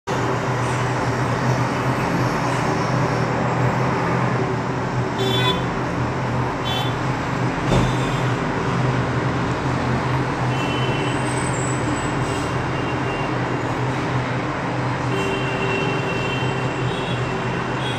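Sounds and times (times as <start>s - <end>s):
road traffic hum: 0.0s - 17.9s.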